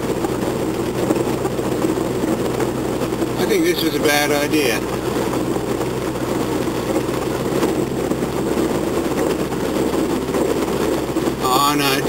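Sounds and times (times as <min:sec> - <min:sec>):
car engine running under load: 0:00.0 - 0:12.0
rush of water: 0:00.0 - 0:12.0.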